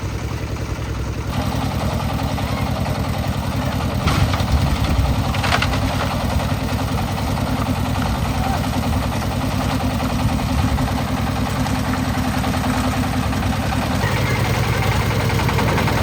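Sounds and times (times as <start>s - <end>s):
concrete mixer engine running: 0.0s - 16.0s.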